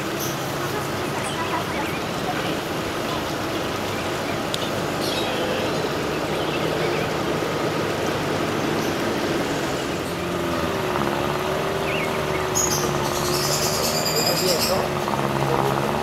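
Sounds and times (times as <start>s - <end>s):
car engine hum: 0.0s - 16.0s
floodwater rushing: 0.0s - 16.0s.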